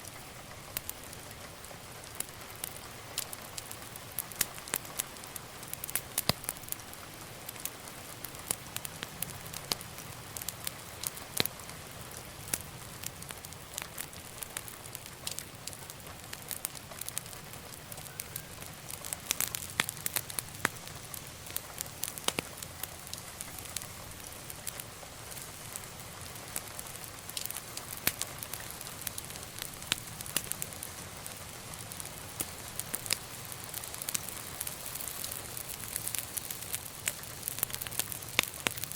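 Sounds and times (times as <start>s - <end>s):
fire hissing: 0.0s - 38.9s
wood fire crackling and popping: 0.0s - 38.9s.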